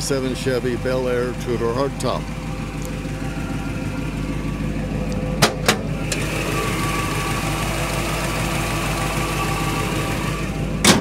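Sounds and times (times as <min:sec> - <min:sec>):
car engine idling: 0:00.0 - 0:11.0
steady whine: 0:00.0 - 0:11.0.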